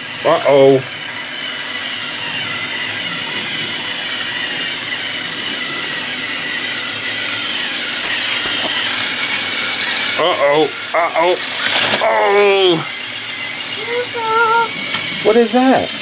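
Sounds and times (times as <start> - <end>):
toy train motors whirring: 0.0 - 16.0.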